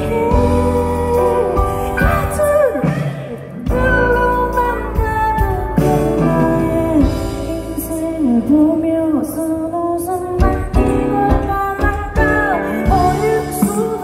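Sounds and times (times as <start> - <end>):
live band playing: 0.0 - 14.0
woman singing into a microphone: 0.0 - 14.0.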